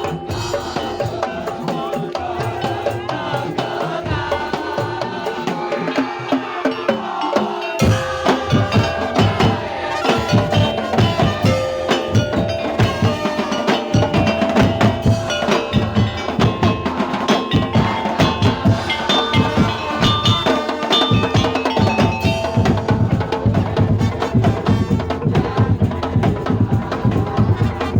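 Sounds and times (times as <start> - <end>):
bell-like melody: 0.0 - 27.9
fast wooden percussion and drums: 0.0 - 27.9.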